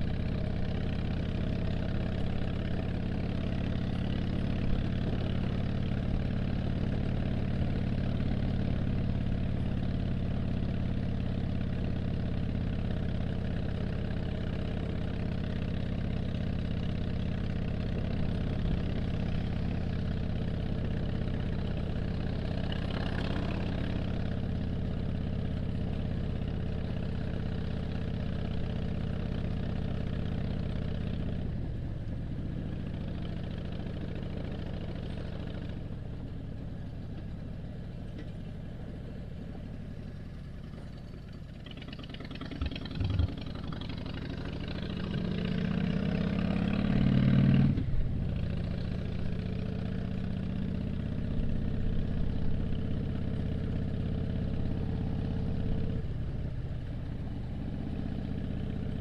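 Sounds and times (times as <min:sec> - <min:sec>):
motorcycle engine drone: 0:00.0 - 0:59.0.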